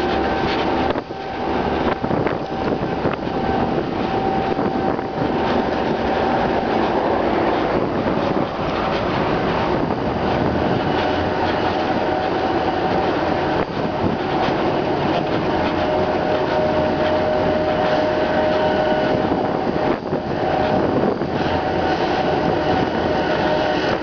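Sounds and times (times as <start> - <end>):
steady machine whine: 0.0 - 24.0.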